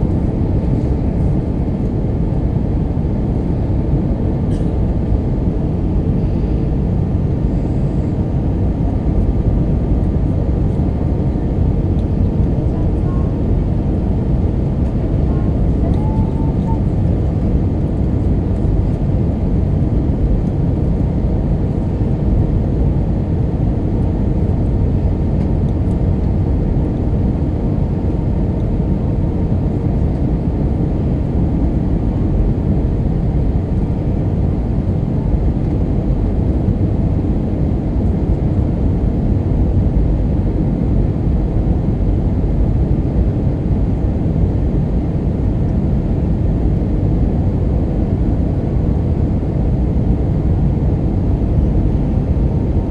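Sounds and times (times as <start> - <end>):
jet engines rumbling: 0.0 - 52.9.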